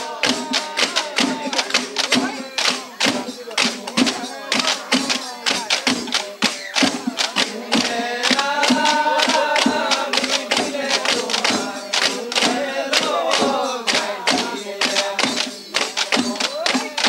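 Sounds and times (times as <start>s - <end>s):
drum beaten in quick rhythm: 0.0s - 17.0s
group singing: 0.0s - 17.0s.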